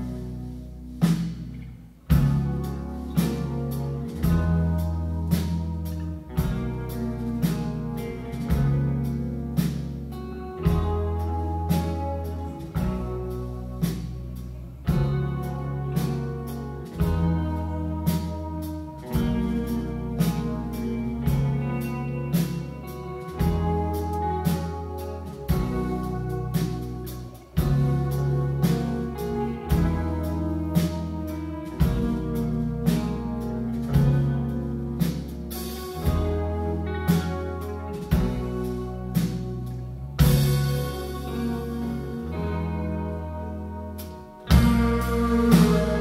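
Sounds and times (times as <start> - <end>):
long held bass notes: 0.0 - 46.0
rock band playing live: 0.0 - 46.0.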